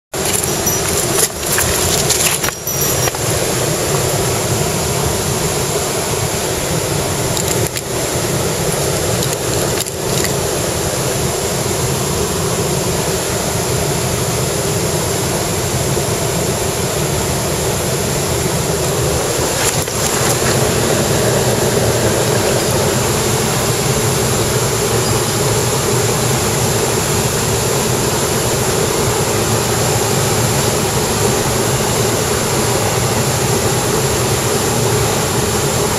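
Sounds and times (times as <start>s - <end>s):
stream rushing over rocks: 0.2s - 13.3s, 13.9s - 35.9s.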